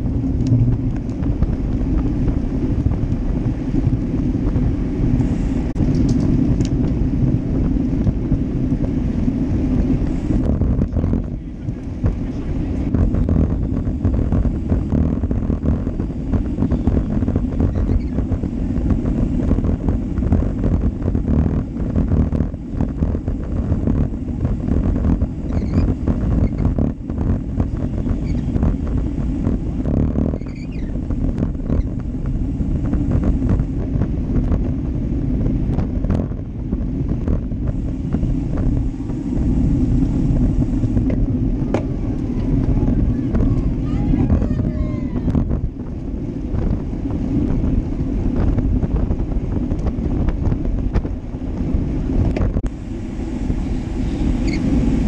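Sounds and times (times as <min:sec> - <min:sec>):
road rumble: 0:00.0 - 0:55.0
wind buffeting microphone: 0:00.0 - 0:55.0.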